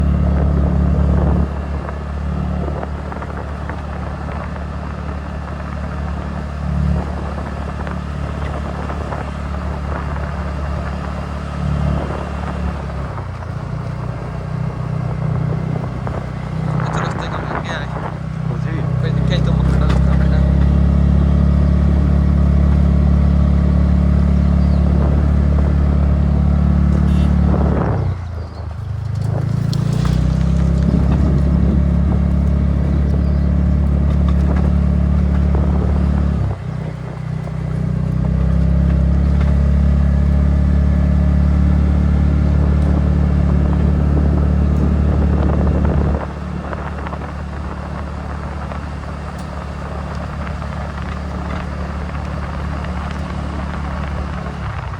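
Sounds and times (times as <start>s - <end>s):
scooter engine running: 0.0s - 54.9s.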